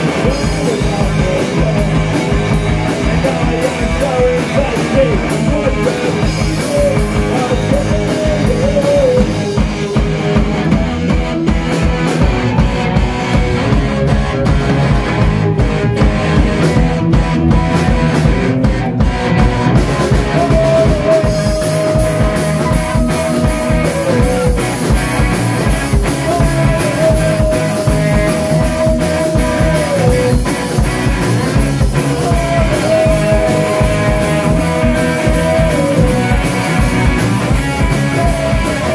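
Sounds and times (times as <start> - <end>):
punk rock band playing: 0.0 - 38.9.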